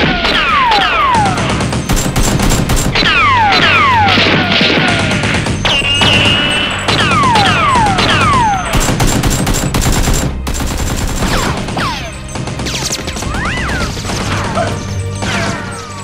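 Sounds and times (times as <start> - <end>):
gunfire sound effects: 0.0 - 15.8
background music: 0.0 - 16.0.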